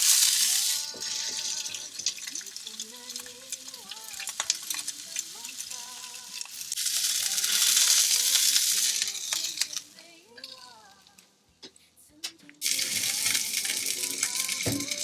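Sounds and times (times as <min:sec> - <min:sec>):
fish sizzling in frying oil: 0:00.0 - 0:10.0, 0:12.6 - 0:15.0.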